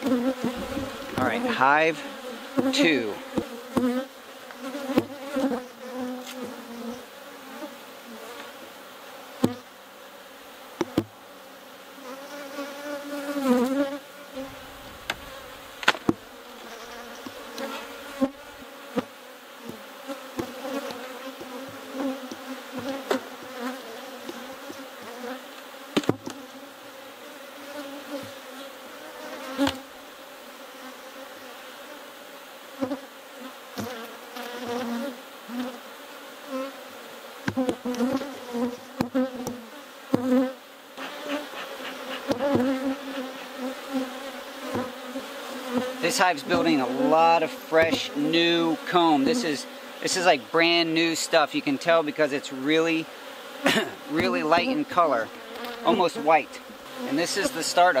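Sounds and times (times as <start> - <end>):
honey bees buzzing: 0.0 - 58.0.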